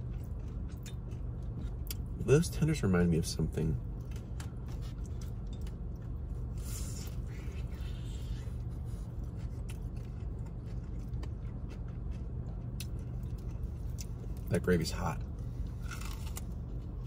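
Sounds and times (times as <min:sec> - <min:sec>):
biting crunchy fried food: 0:00.0 - 0:02.4, 0:03.6 - 0:17.0
close-up chewing with crunches: 0:00.0 - 0:17.0
low hum in car: 0:00.0 - 0:17.0.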